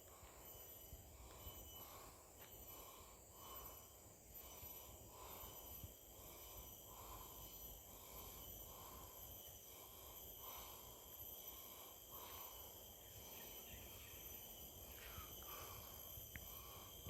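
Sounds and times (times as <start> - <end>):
high insect buzz: 0.0 - 17.0.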